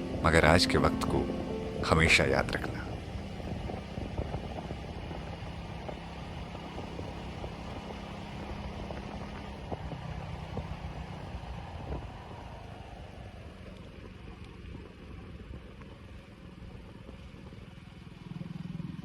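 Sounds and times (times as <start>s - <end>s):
road and wind noise: 0.0s - 19.0s
vehicle engine droning: 0.0s - 19.0s.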